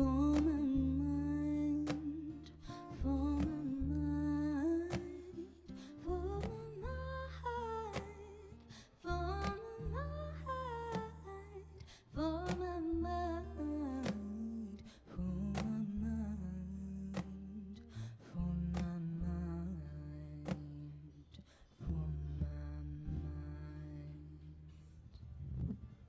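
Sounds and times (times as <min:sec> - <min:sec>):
woman singing: 0:00.0 - 0:25.1
acoustic guitar: 0:00.0 - 0:26.0
double bass notes: 0:00.0 - 0:26.0.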